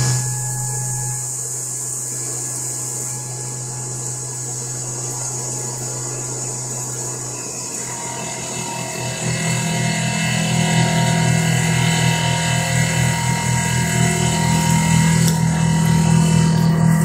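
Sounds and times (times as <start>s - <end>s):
coolant spraying hiss: 0.0s - 16.6s
milling machine hum: 0.0s - 17.0s.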